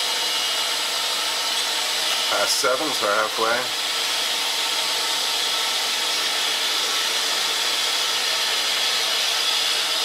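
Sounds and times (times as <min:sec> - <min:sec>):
metal lathe whirring hiss: 0:00.0 - 0:10.0.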